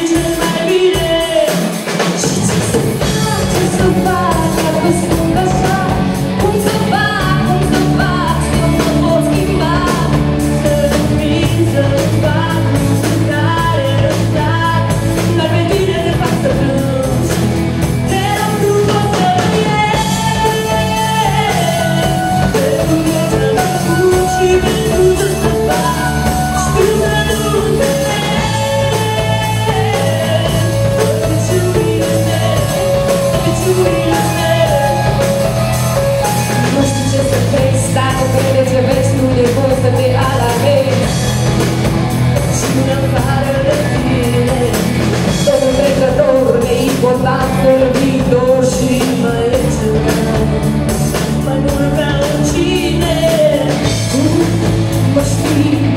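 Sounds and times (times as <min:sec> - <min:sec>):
pop-rock band playing: 0:00.0 - 0:55.9
woman singing: 0:00.0 - 0:55.9.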